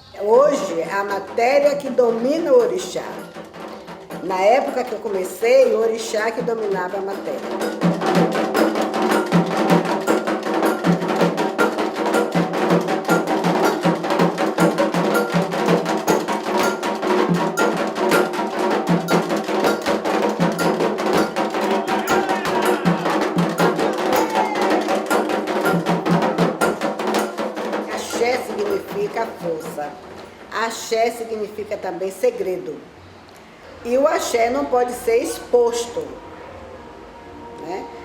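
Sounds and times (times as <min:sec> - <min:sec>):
fast drum strikes: 0:00.6 - 0:31.1.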